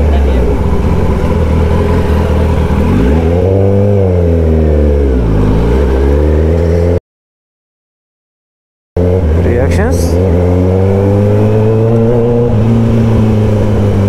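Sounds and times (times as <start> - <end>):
motorcycle engine revving loud: 0.0 - 7.0, 9.0 - 14.0.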